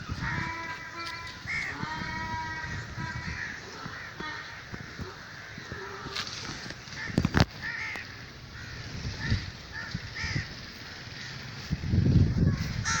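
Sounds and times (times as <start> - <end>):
crows cawing: 0.0 - 11.6, 12.4 - 13.0.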